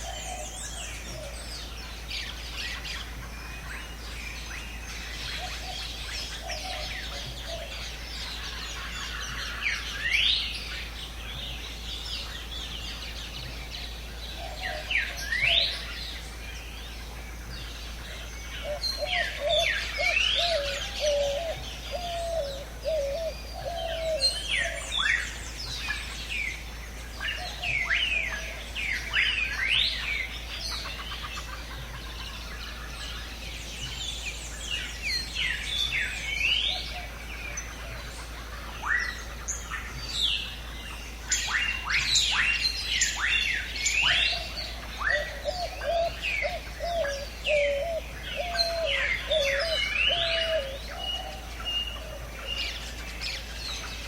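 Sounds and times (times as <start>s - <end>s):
birds chirping: 0.0s - 54.0s
low warbling bird call: 0.0s - 54.0s.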